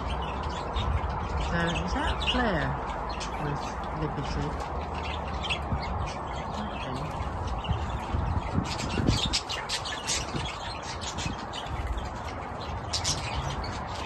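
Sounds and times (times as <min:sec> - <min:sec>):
budgerigars chattering and squawking: 0:00.0 - 0:14.0.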